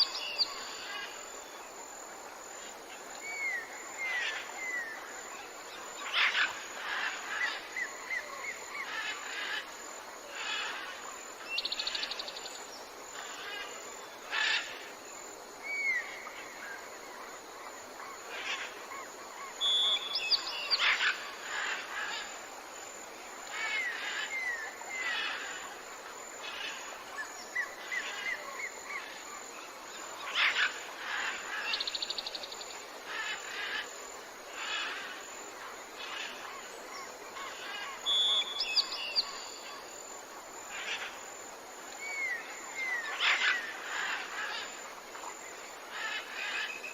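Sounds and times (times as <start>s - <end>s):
background hiss: 0.0s - 46.9s.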